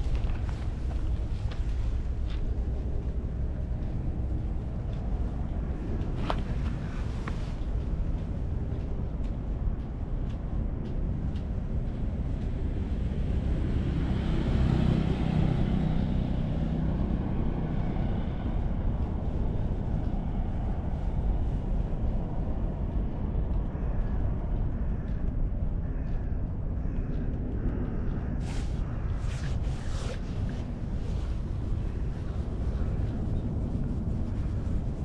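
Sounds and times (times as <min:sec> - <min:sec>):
distant traffic rumble: 0:00.0 - 0:35.0.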